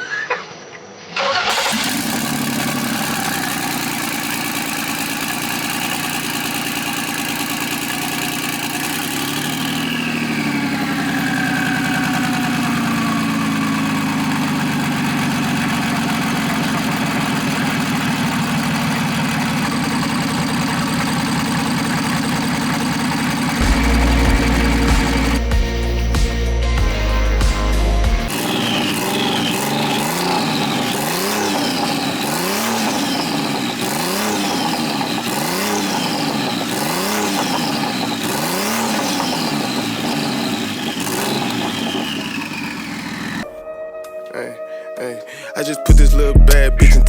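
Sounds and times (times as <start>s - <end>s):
car engine cranking and idling: 1.2s - 43.5s.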